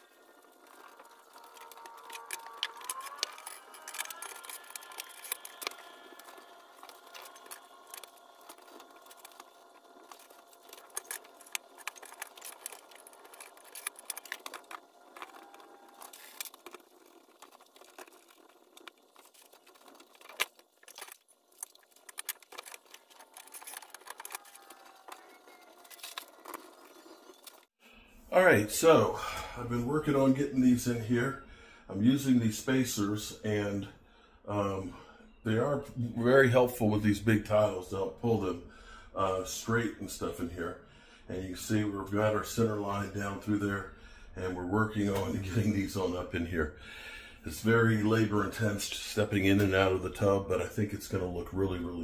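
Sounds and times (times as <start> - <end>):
faint steady whine: 0.0 - 52.0.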